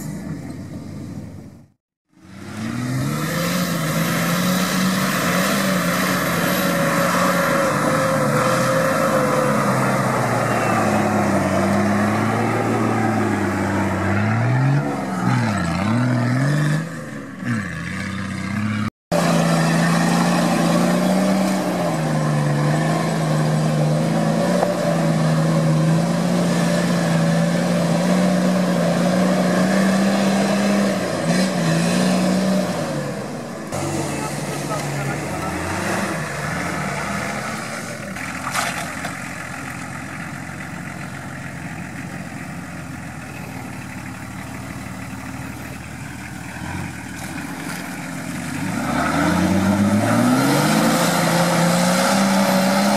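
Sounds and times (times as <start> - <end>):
engine labouring off-road: 0.0 - 52.9.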